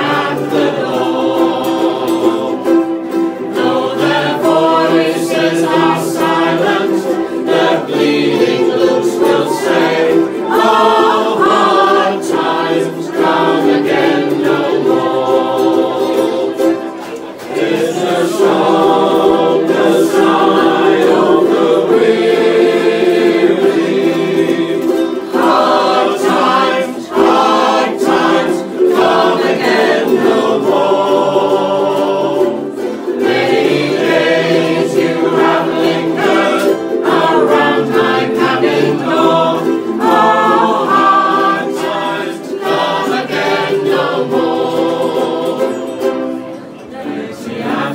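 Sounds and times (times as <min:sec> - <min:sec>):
group singing in unison: 0:00.0 - 0:47.9
ukulele ensemble strumming: 0:00.0 - 0:47.9.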